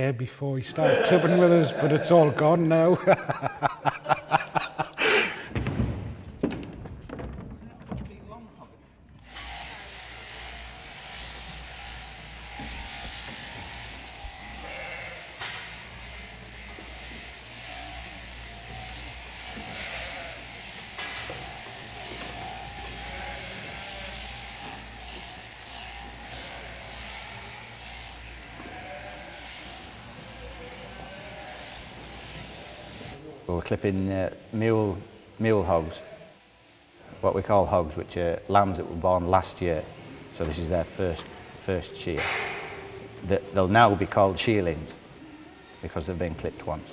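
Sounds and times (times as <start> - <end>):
electric shears buzzing: 0.8 - 5.5, 9.2 - 46.9.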